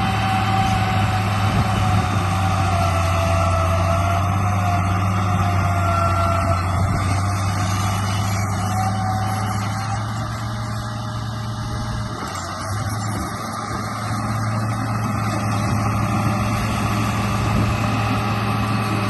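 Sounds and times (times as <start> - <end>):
toy bulldozer motor whining: 0.0 - 19.0.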